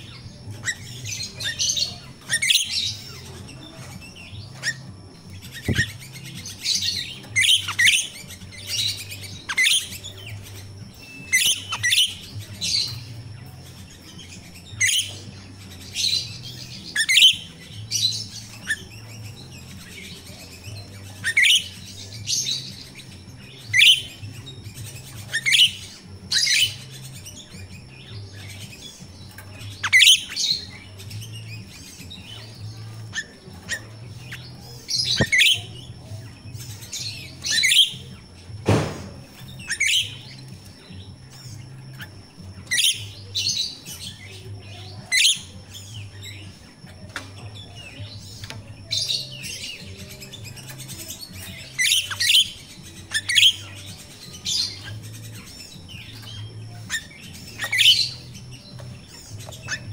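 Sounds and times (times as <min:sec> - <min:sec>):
bird chirping: 0:00.0 - 0:59.9.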